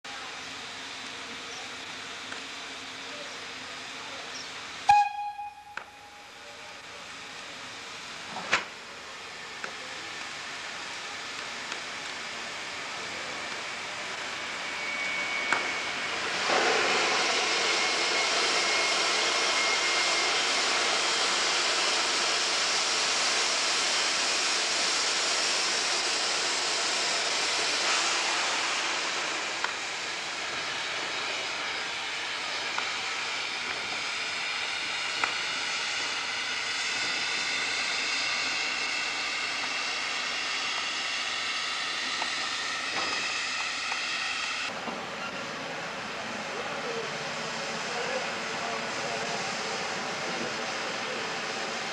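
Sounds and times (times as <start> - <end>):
steam locomotive hissing steam: 0.1 - 51.9.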